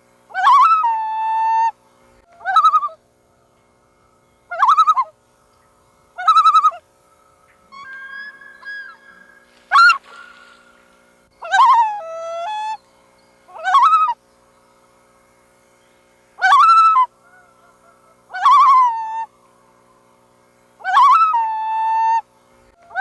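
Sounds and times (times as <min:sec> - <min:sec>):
loons calling: 0:00.3 - 0:15.1, 0:15.7 - 0:23.0.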